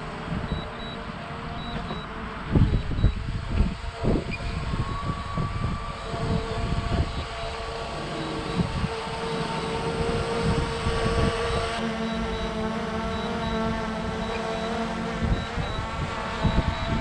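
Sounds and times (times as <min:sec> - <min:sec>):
drone propellers whining: 0:00.0 - 0:17.0
low tone: 0:00.0 - 0:17.0
wind on microphone: 0:00.0 - 0:17.0.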